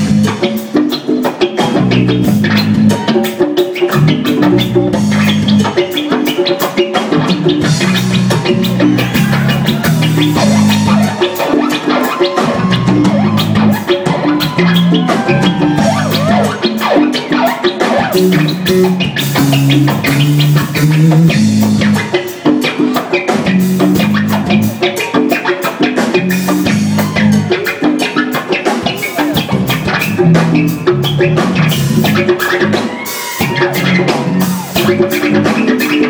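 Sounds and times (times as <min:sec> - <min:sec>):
bass guitar: 0:00.0 - 0:36.0
drum kit with cymbal hits: 0:00.0 - 0:36.0
electric guitar: 0:00.0 - 0:36.0.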